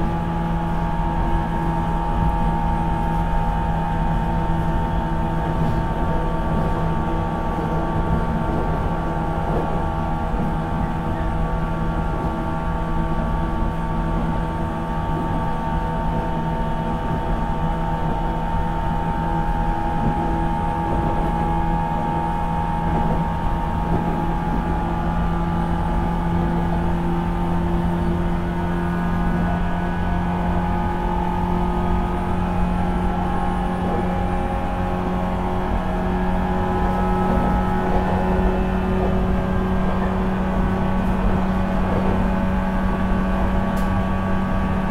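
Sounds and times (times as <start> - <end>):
train motor whine: 0.0 - 44.9
wheel and rail rumble: 0.0 - 44.9.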